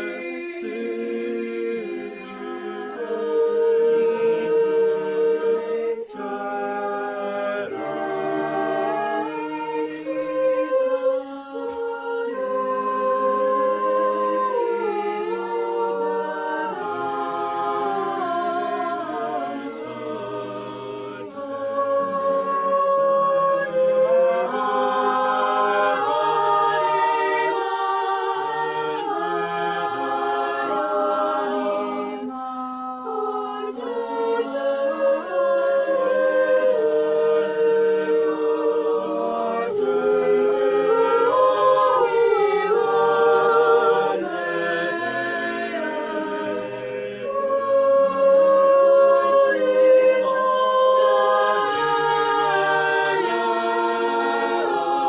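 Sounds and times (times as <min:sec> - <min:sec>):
a cappella choir singing: 0:00.0 - 0:55.0.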